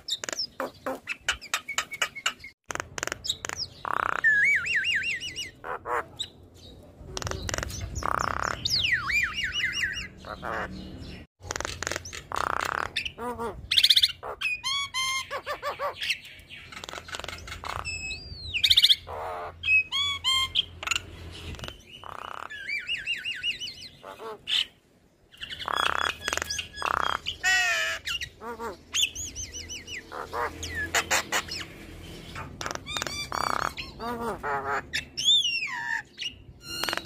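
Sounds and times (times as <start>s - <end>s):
bird chattering song: 0.0s - 37.0s.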